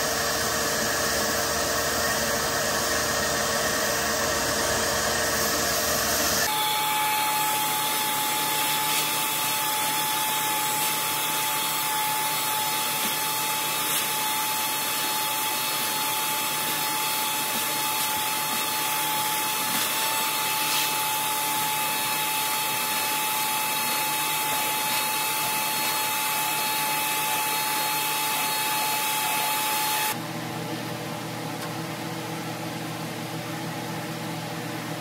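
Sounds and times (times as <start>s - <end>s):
machine hissing and whistling: 0.0s - 30.2s.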